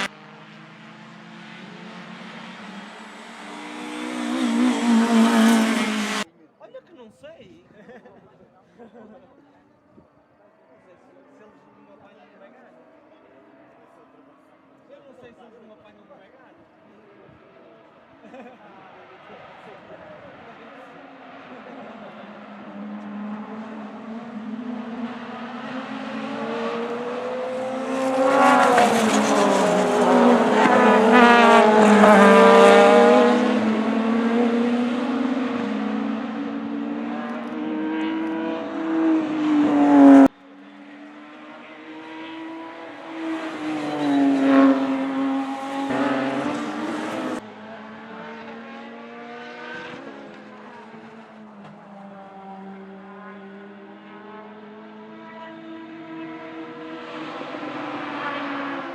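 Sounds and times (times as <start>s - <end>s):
race car engines passing: 0.0s - 6.3s, 16.6s - 58.9s.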